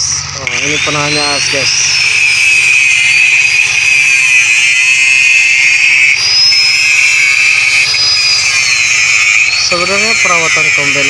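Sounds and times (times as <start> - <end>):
angle grinder cutting metal: 0.0 - 11.0.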